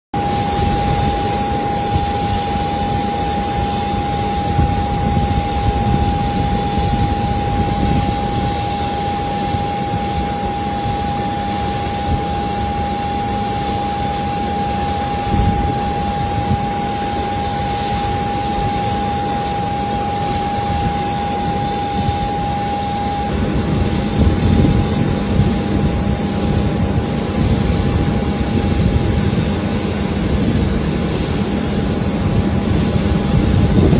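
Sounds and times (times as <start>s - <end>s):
jet engine whine: 0.1s - 33.9s
jet engine rumble: 0.2s - 33.9s.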